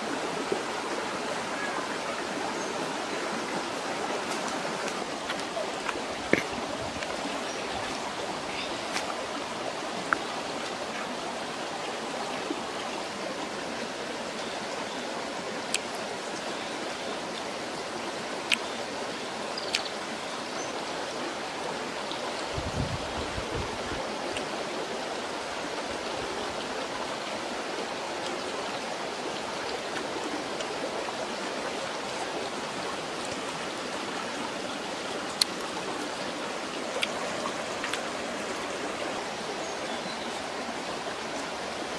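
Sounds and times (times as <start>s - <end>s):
stream rushing: 0.0s - 41.9s.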